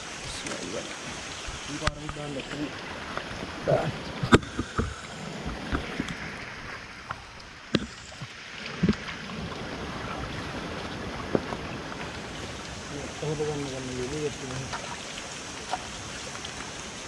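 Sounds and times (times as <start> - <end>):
rocky stream running: 0.0 - 17.0.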